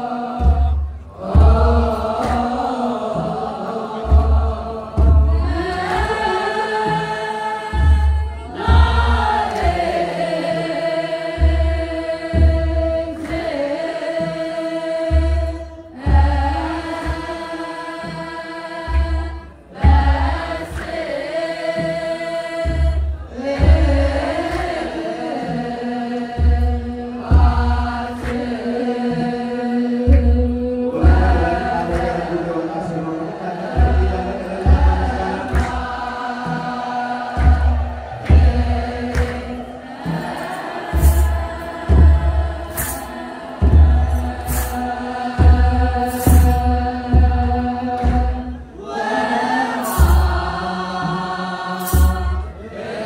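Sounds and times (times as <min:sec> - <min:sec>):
girls chanting in unison: 0:00.0 - 0:31.7, 0:34.7 - 0:53.0.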